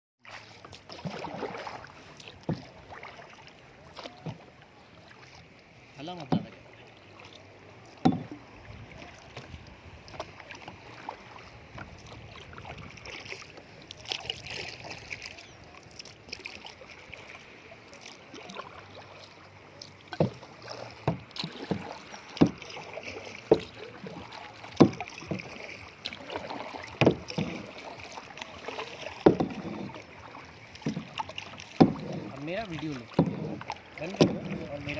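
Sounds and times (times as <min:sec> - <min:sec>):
kayak paddle splashing in water: 0:00.2 - 0:34.9.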